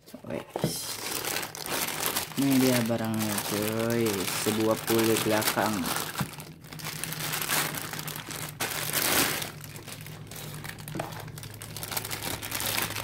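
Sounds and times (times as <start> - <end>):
plastic wrapping crinkling: 0.3 - 13.0.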